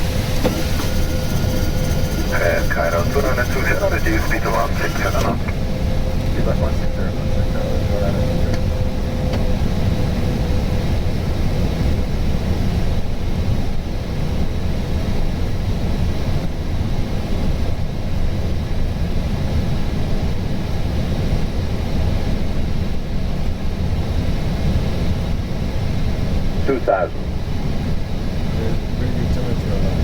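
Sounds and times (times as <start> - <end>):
cockpit airflow and engine noise: 0.0 - 30.0.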